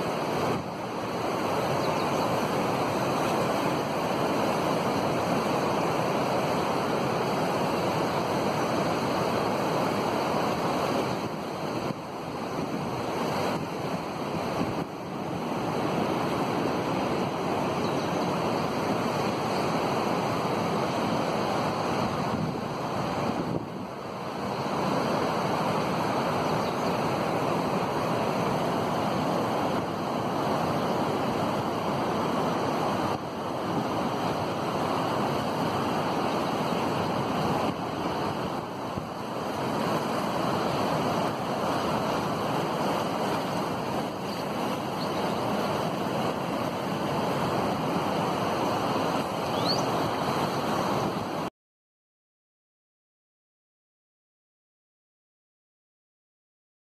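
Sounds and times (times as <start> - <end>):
river rushing: 0.0 - 51.5.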